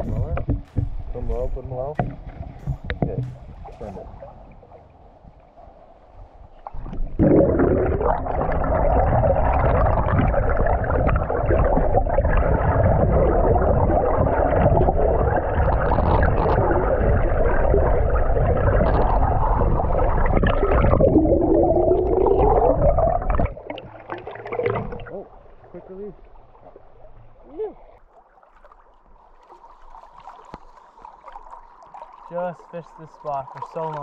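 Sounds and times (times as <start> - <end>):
muffled underwater river gurgling: 0.0 - 34.0.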